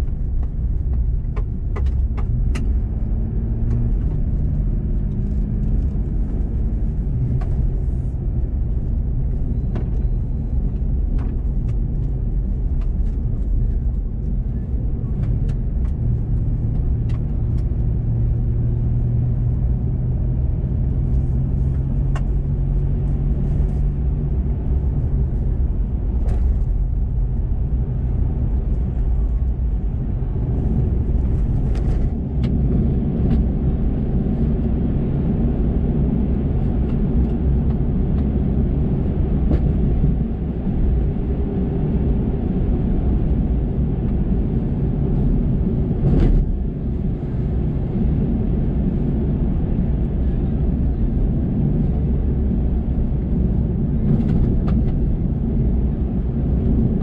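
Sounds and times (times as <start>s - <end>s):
engine and tyres on gravel rumble: 0.0s - 57.0s.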